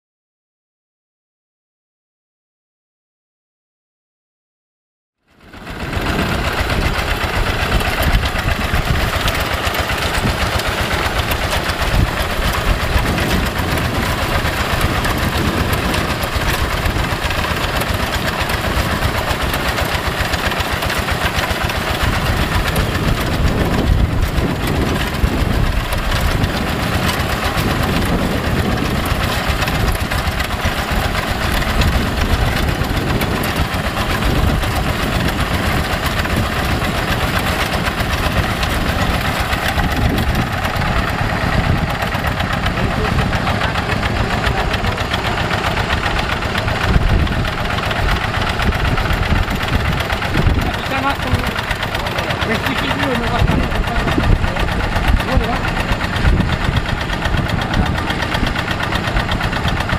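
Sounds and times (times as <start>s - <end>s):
diesel engine chugging: 5.3s - 59.9s.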